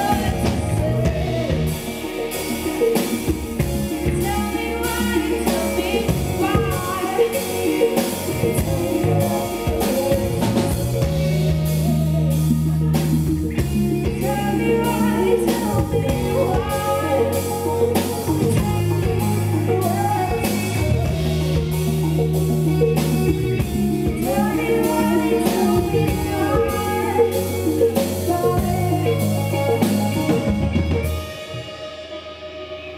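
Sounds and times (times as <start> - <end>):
woman singing: 0.0 - 2.6, 4.0 - 21.9, 24.1 - 30.4
repeating bass line: 0.0 - 31.7
live pop-rock band playing: 0.0 - 32.9.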